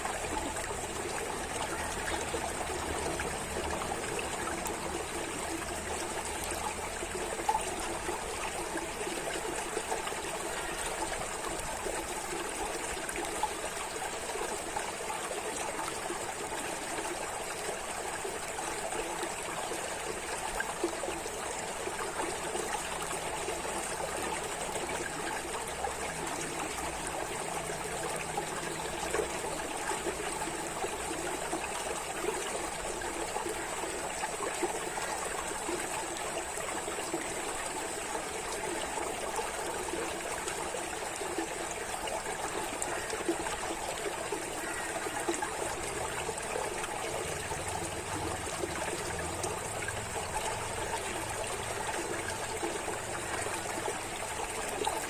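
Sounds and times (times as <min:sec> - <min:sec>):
running water trickling: 0:00.0 - 0:55.0.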